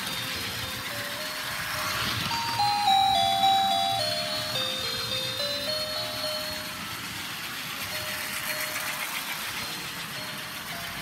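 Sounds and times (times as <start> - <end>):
music box beeping tune: 0.0 - 7.2, 7.8 - 11.0.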